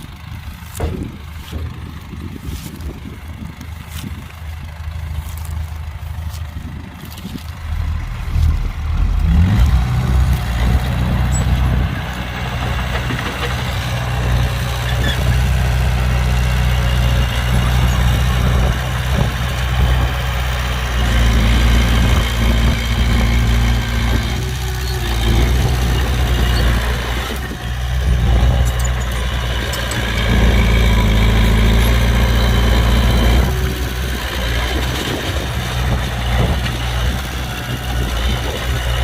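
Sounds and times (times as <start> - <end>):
engine running with low hum: 0.0 - 39.0.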